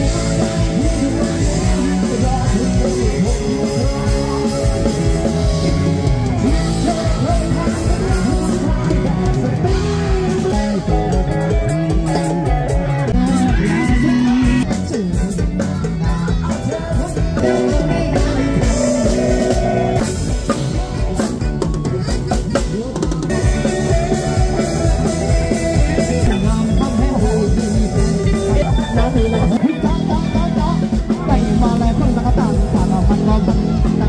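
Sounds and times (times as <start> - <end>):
music with drum kit: 0.0 - 34.0.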